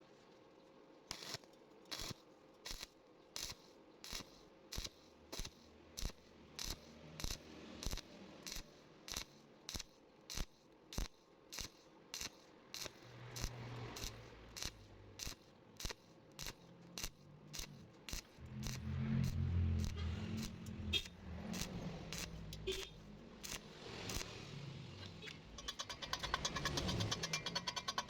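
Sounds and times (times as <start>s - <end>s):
arc welding crackle: 1.1s - 28.0s.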